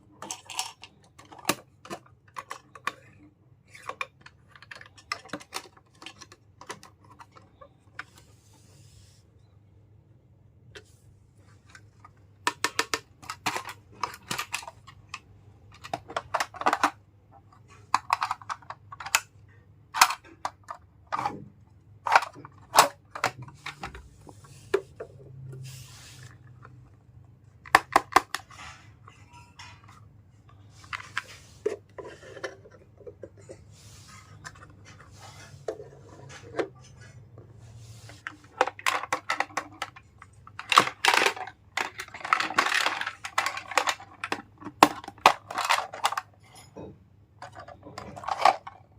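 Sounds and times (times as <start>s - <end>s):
plastic toys clicking and clattering: 0.0s - 8.3s, 10.8s - 48.9s.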